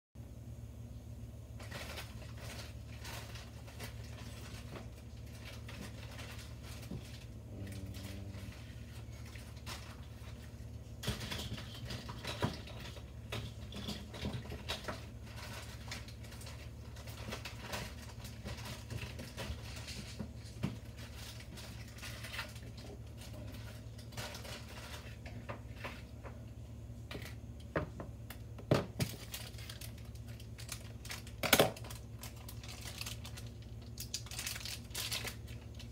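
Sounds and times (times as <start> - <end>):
steady low hum: 0.2 - 35.9
small objects clicking and rustling: 1.6 - 26.1, 27.0 - 35.9.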